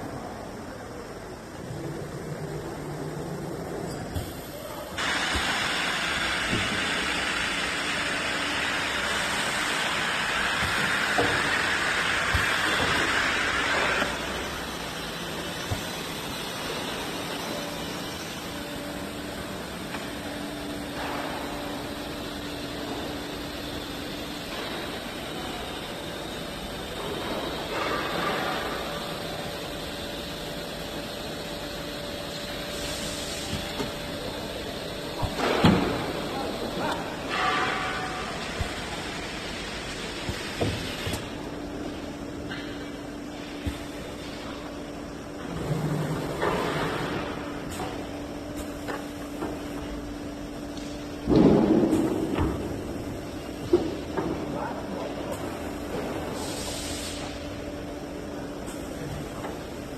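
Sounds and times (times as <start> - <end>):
faint steady whine: 0.0 - 59.9
cnc machine hissing: 0.1 - 51.1, 51.9 - 59.9.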